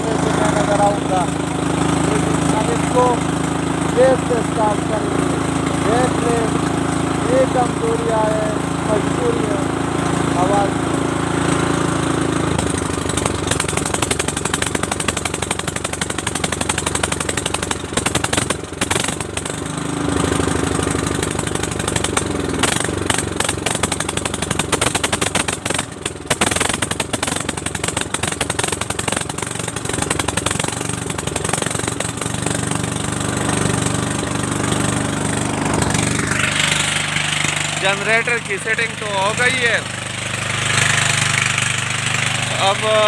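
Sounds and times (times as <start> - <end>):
small generator engine running: 0.0 - 43.0.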